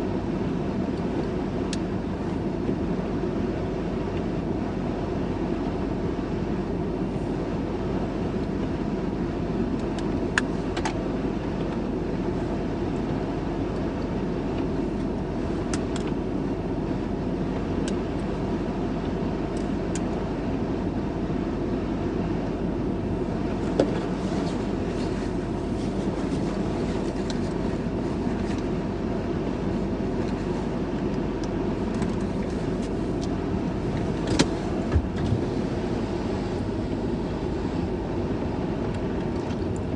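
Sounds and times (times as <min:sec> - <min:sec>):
vehicle rumble in motion: 0:00.0 - 0:39.9.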